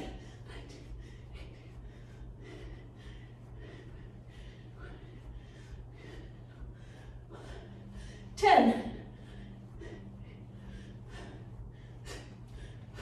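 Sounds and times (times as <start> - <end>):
steady low hum: 0.0 - 13.0
woman breathing hard: 0.0 - 13.0.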